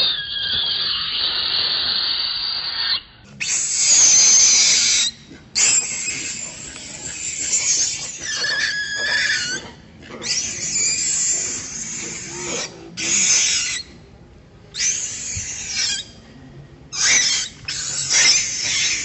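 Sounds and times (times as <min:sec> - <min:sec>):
macaques screaming and squealing: 0:00.0 - 0:14.0, 0:14.7 - 0:16.2, 0:16.9 - 0:19.0.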